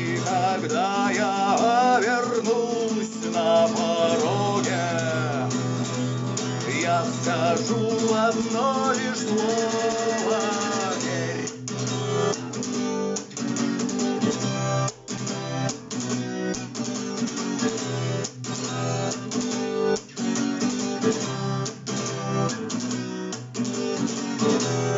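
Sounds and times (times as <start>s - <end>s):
acoustic guitar strumming chords: 0.0s - 24.9s.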